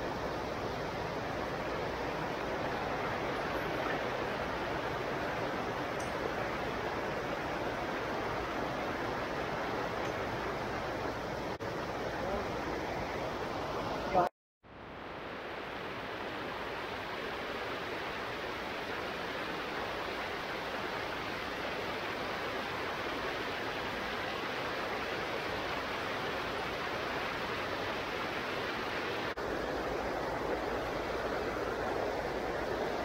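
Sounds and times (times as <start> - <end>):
stream rushing over boulders: 0.0 - 33.0.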